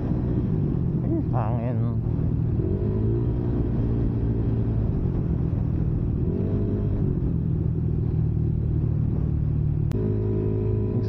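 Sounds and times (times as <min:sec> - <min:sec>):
motorcycle engine drone: 0:00.0 - 0:11.0
wind on microphone: 0:00.0 - 0:11.0.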